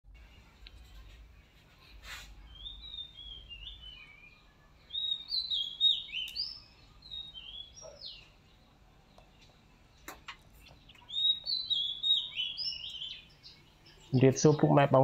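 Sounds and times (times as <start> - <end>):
bird chirping: 1.9 - 15.0.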